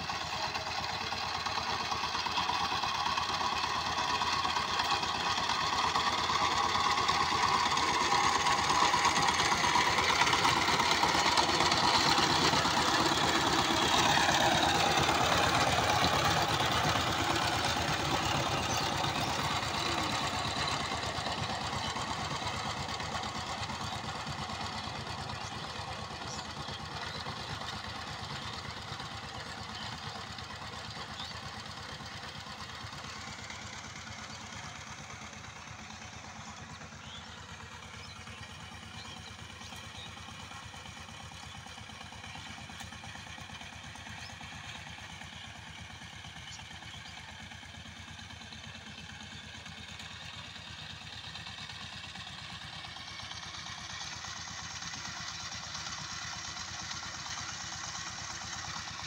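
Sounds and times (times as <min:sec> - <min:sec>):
diesel tiller engine running: 0:00.0 - 0:59.0.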